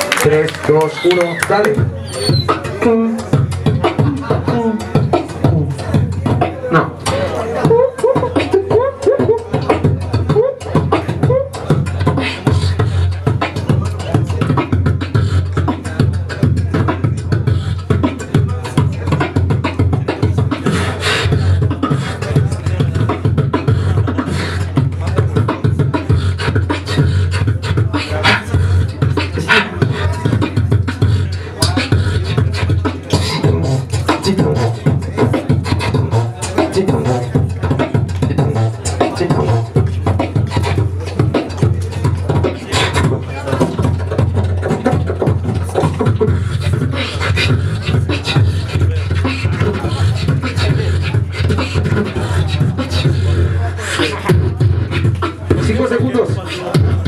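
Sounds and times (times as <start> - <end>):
beatboxing into microphone: 0.0 - 57.0.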